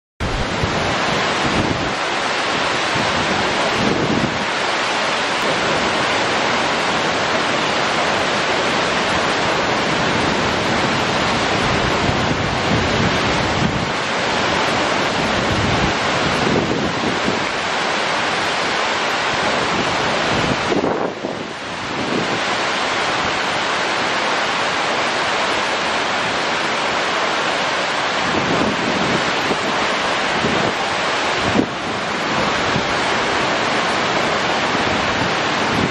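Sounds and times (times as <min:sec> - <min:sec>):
water churning close: 0:00.2 - 0:35.9
waterfall rushing: 0:00.2 - 0:35.9.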